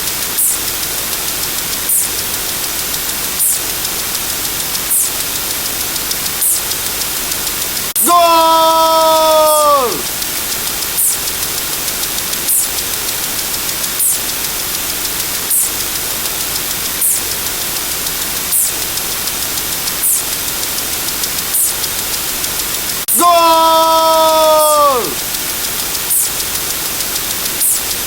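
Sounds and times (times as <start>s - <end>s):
steady noise hiss: 0.0s - 28.0s.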